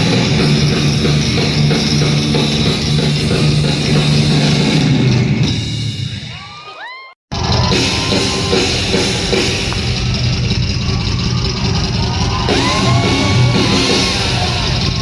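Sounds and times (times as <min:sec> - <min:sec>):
live rock band playing: 0:00.0 - 0:06.1, 0:07.4 - 0:15.0.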